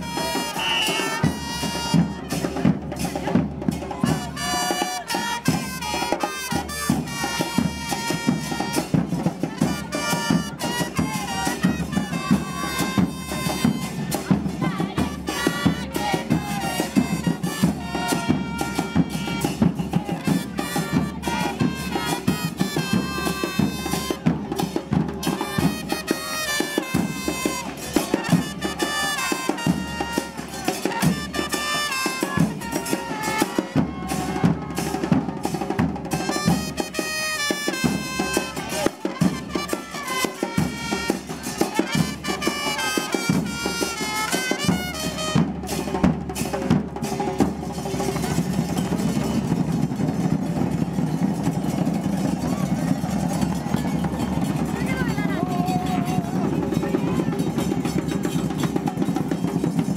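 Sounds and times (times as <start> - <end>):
drums beating: 0.0 - 59.9
wind-instrument melody: 0.0 - 59.9.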